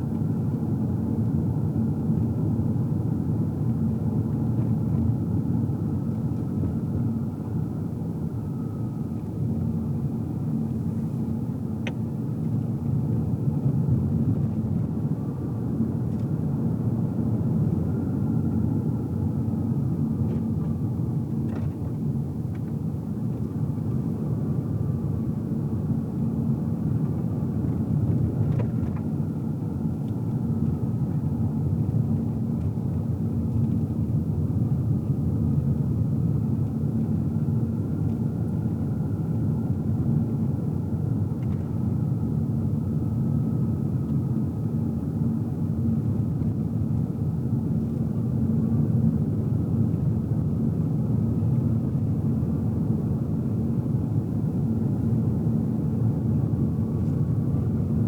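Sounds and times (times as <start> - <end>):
tyre road noise and engine rumble: 0.0 - 58.0.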